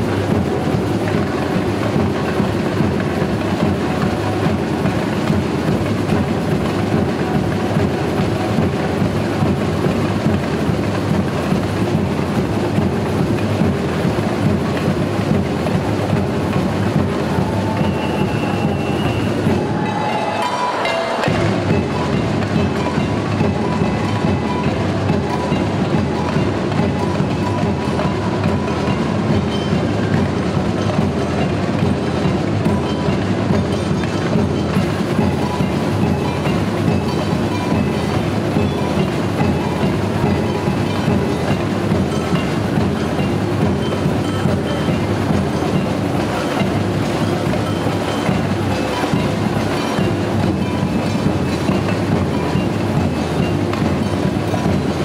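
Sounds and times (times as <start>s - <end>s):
metal shakers: 0.0s - 55.0s
snare drums: 0.0s - 55.0s.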